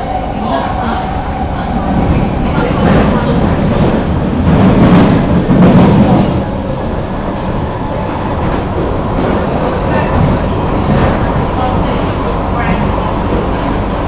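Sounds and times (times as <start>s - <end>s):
metro train wheels rumbling: 0.0s - 14.0s.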